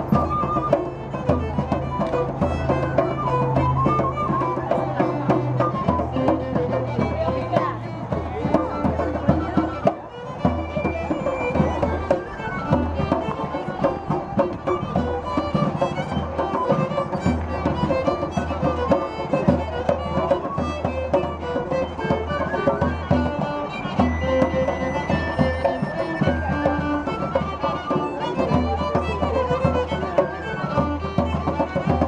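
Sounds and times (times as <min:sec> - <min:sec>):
drum strokes: 0:00.0 - 0:32.0
fiddle playing: 0:00.0 - 0:32.0
fife playing: 0:00.0 - 0:32.0.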